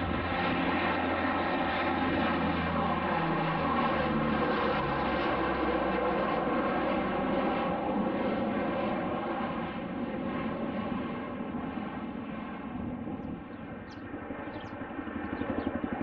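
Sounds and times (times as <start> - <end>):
aircraft engine drone: 0.0 - 16.0.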